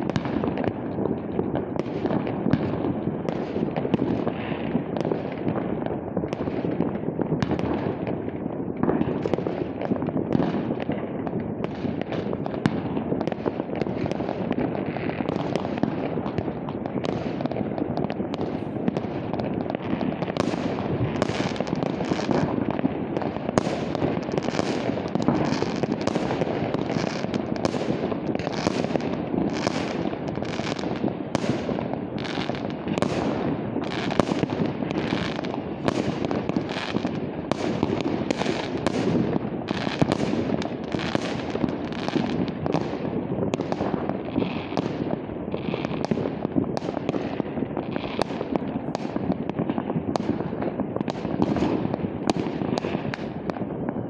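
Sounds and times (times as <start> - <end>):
dense fireworks bangs and crackles: 0.0 - 54.0
sharp firework bangs: 0.0 - 54.0.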